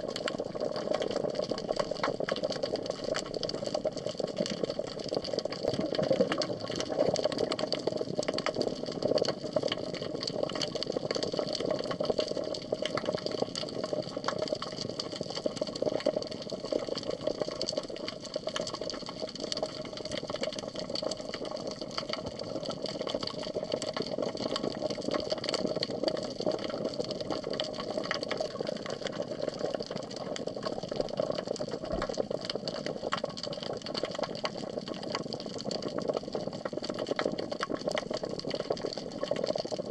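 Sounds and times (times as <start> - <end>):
crackle of fine clicks: 0.0 - 39.9.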